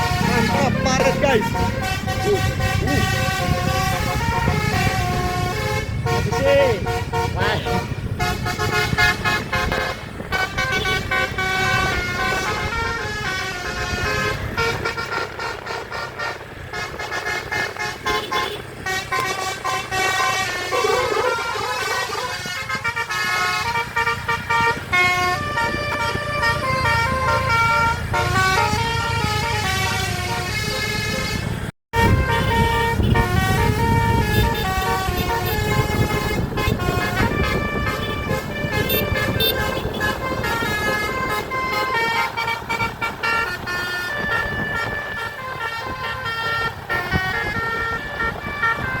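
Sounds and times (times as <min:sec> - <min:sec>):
low rumble of bus engine: 0:00.0 - 0:49.0
multi-tone bus horn melody: 0:00.0 - 0:49.0.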